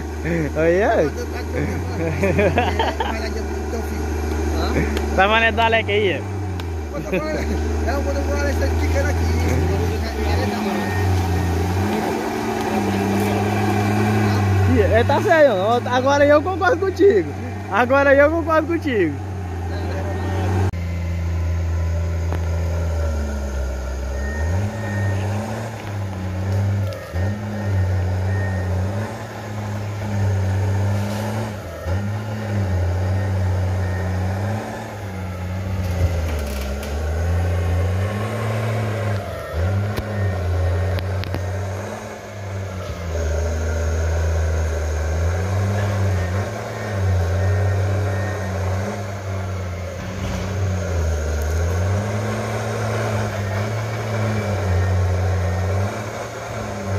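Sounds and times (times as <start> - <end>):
tractor diesel engine under load: 0.0 - 56.9.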